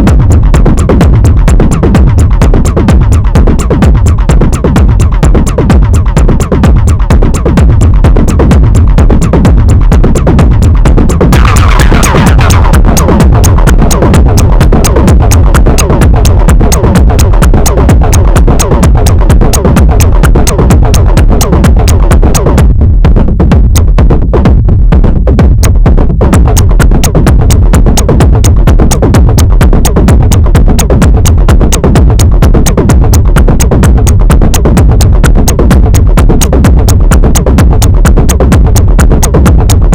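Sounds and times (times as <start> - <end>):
driving electronic beat: 0.0 - 39.9.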